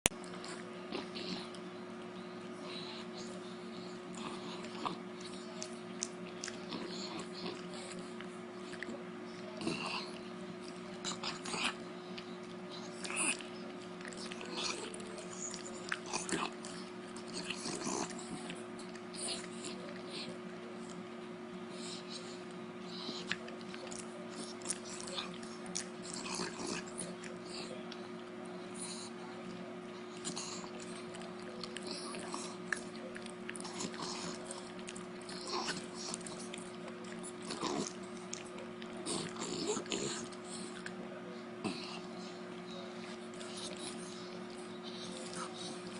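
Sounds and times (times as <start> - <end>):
dog chewing a treat: 0.1 - 45.9.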